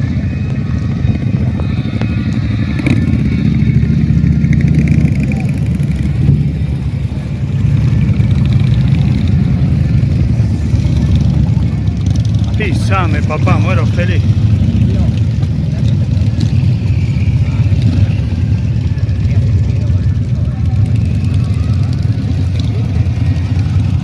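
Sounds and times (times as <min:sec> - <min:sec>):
motorcycle engines rumbling: 0:00.0 - 0:24.0.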